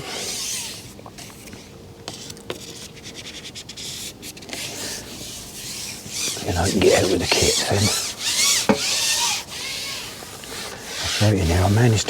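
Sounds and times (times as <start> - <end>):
fishing gear rubbing and scraping: 0.0 - 12.0.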